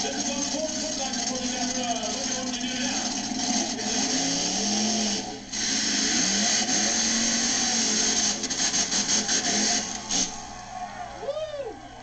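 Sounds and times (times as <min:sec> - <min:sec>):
toy monster truck engine whine: 0:00.0 - 0:10.6.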